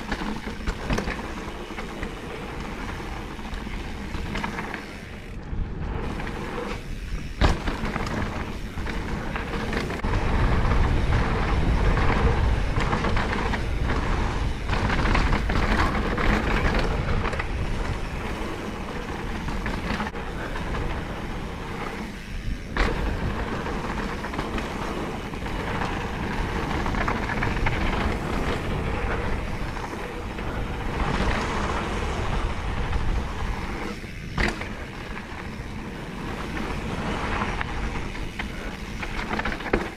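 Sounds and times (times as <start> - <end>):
wind buffeting microphone: 0.0 - 39.5
bike rattling: 0.0 - 39.9
tyres rolling on dirt: 0.0 - 39.9.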